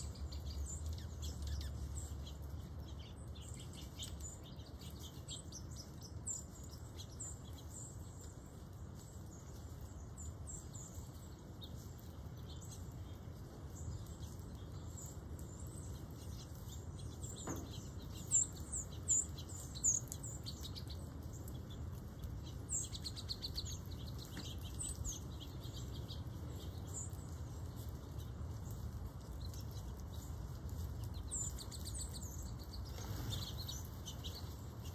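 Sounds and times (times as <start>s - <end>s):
small songbirds chirping: 0.0s - 34.9s.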